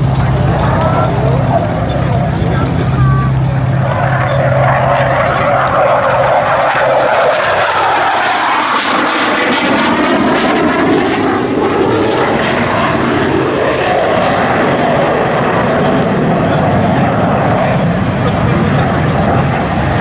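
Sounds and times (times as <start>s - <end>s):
jet flyby roar: 0.0s - 20.0s.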